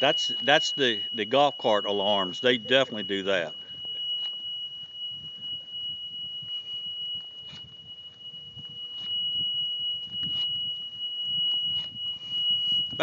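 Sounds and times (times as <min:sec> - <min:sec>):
high-pitched backup alarm tone: 0:00.0 - 0:13.0.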